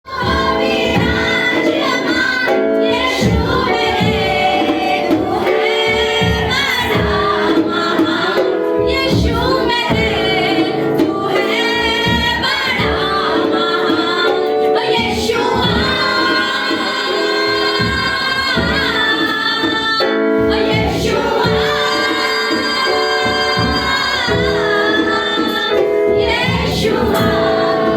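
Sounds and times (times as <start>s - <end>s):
instrumental accompaniment: 0.1s - 27.9s
steady drum beat: 0.1s - 27.9s
women singing worship song: 0.1s - 27.9s.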